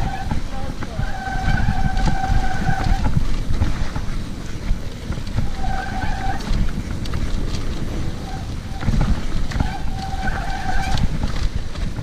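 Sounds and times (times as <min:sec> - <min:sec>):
bike rattles and knocks: 0:00.0 - 0:12.0
rumble of wind and terrain: 0:00.0 - 0:12.0.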